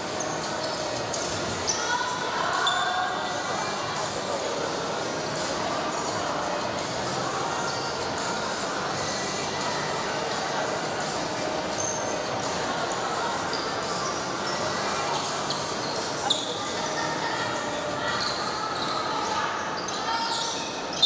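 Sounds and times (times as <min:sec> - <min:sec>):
echoing indistinct voices: 0:00.0 - 0:21.0.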